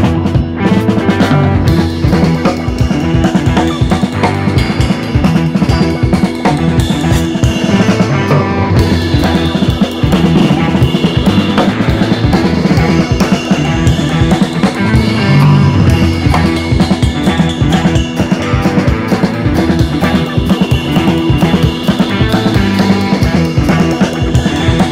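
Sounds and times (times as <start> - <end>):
background music with drum beat: 0.0 - 24.9.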